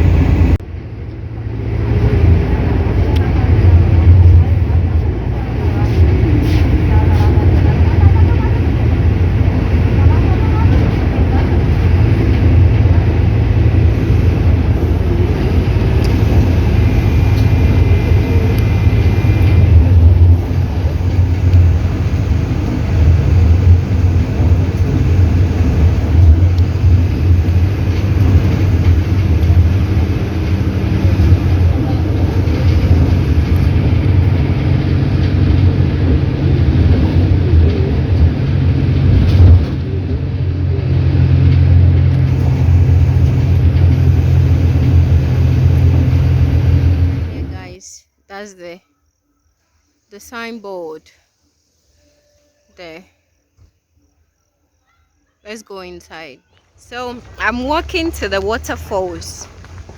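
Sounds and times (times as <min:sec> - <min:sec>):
bus engine and road rumble: 0:00.0 - 0:47.9, 0:55.5 - 0:59.9.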